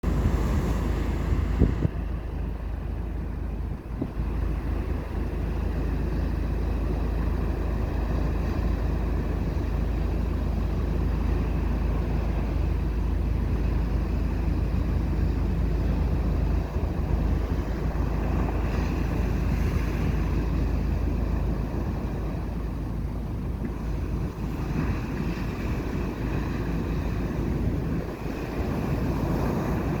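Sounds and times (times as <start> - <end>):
ocean surf on a beach: 0.0 - 30.0
wind rumbling on microphone: 0.0 - 30.0.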